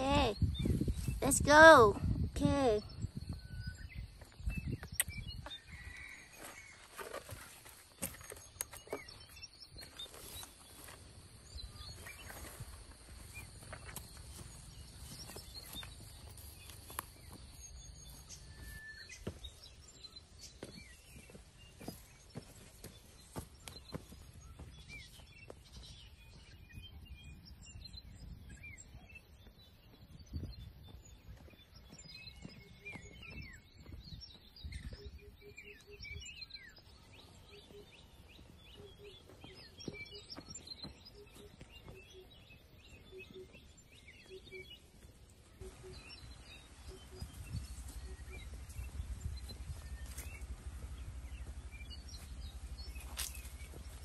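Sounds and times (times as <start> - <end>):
birds chirping: 0.0 - 54.0
footsteps on dirt path: 2.6 - 54.0.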